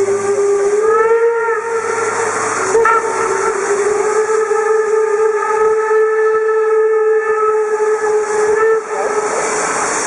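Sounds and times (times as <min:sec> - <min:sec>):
steam hissing: 0:00.0 - 0:10.0
steam locomotive whistle: 0:00.0 - 0:10.0.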